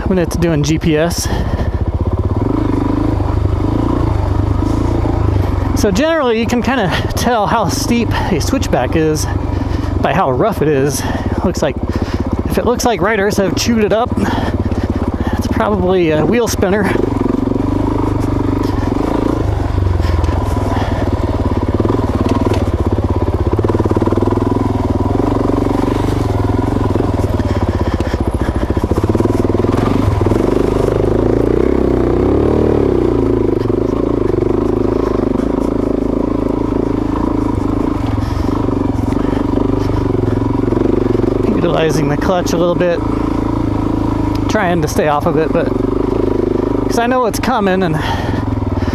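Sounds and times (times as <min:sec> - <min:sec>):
motorcycle engine revving uphill: 0:00.0 - 0:48.9.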